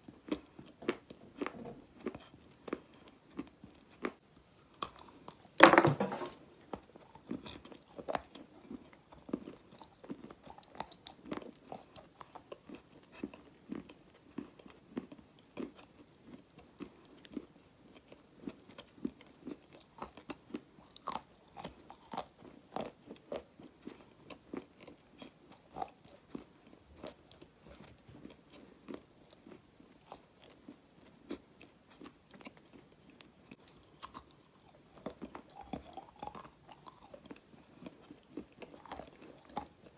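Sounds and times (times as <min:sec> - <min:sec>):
clay being chewed crunchily: 0:00.0 - 0:39.9.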